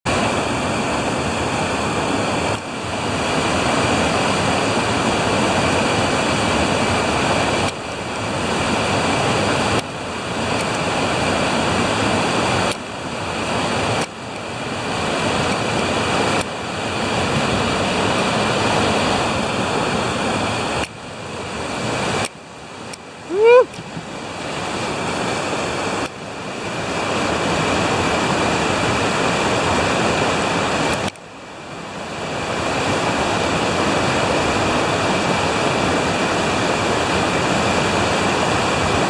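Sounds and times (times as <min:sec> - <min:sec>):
waterfall rushing: 0:00.1 - 0:39.0.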